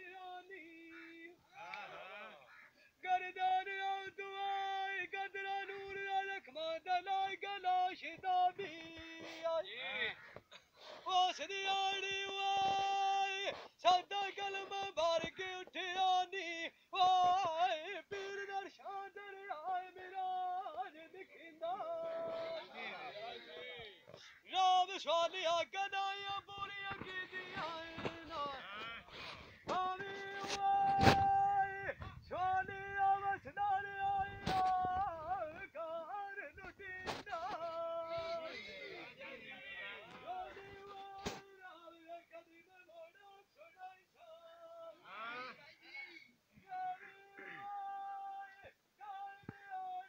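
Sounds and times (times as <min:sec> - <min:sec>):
man singing: 0:00.0 - 0:02.4, 0:03.0 - 0:10.1, 0:10.8 - 0:23.1, 0:24.2 - 0:39.3, 0:39.9 - 0:45.1, 0:46.6 - 0:50.0.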